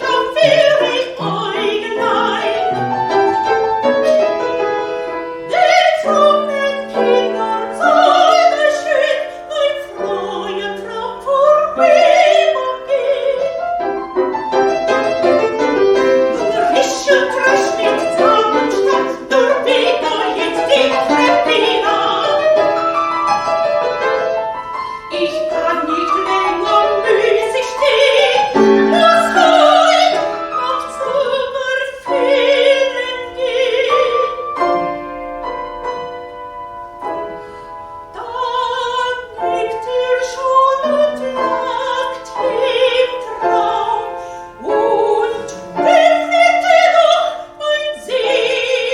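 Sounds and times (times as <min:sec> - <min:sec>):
soprano singing with vibrato: 0:00.0 - 0:35.1, 0:38.0 - 0:48.9
piano accompaniment: 0:00.0 - 0:48.9.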